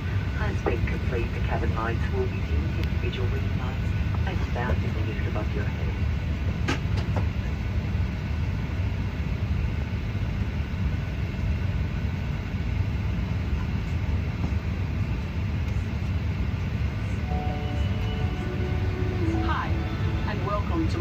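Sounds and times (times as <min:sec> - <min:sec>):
airplane cabin rumble and hiss: 0:00.0 - 0:21.0.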